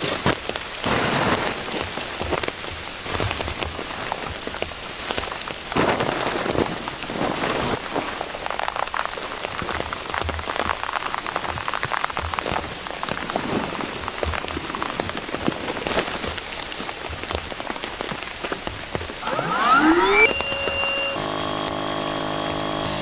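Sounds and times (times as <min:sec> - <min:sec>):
raindrops ticking on a surface: 0:00.0 - 0:19.2
heavy rain: 0:00.0 - 0:19.8.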